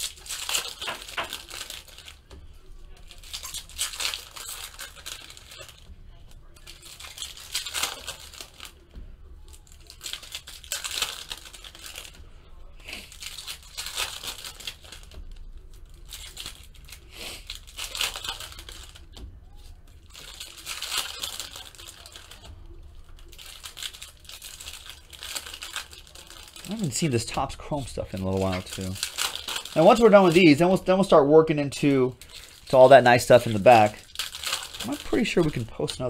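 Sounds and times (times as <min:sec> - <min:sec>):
foil wrappers tearing and crinkling: 0:00.0 - 0:36.0.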